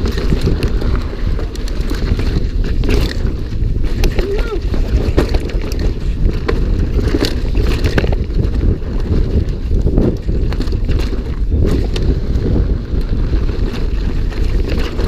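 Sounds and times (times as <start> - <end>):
bike rattling and knocking: 0.0 - 15.0
wind buffeting microphone: 0.0 - 15.0.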